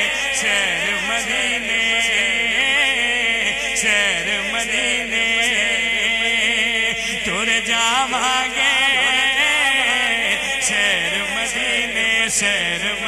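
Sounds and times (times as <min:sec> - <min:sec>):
man singing through microphone: 0:00.0 - 0:13.0.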